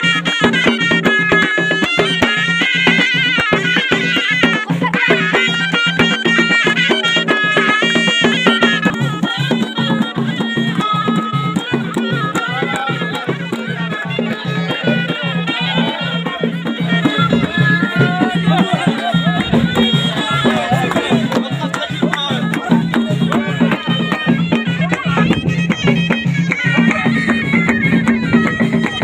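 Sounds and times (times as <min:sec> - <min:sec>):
shawm playing fast melody: 0:00.0 - 0:29.0.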